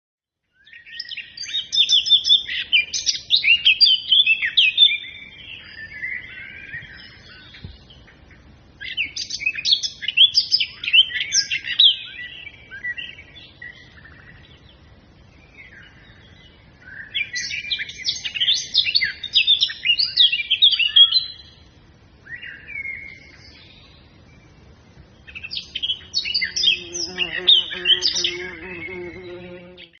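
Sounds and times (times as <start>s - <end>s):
songbird warbling chirps: 0.5s - 30.0s.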